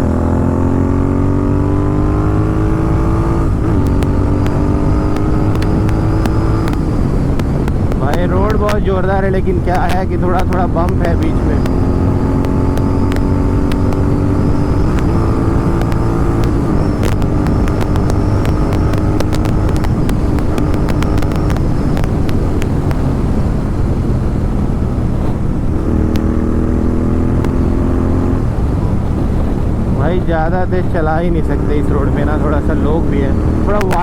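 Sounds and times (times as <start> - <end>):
exhaust crackles and pops: 0.0 - 34.0
low wind rumble: 0.0 - 34.0
motorcycle engine running: 0.0 - 34.0.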